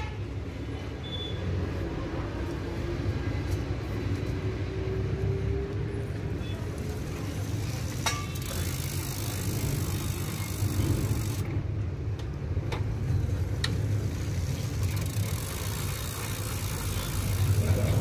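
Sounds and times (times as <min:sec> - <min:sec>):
bike tyres and drivetrain rumbling: 0:00.0 - 0:18.0.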